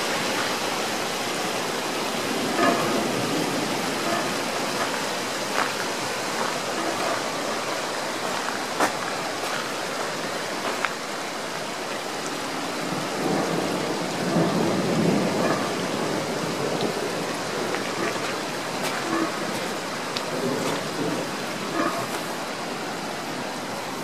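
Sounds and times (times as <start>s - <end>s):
steady rain: 0.0s - 24.0s
water rushing through channel: 0.0s - 24.0s.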